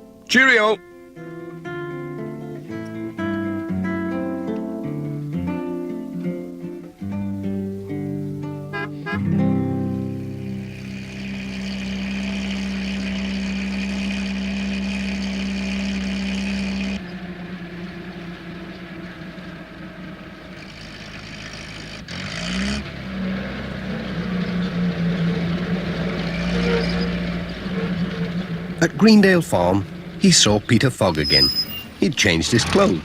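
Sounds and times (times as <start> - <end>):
quiet hiss: 0.0 - 33.0
van engine humming: 0.0 - 33.0.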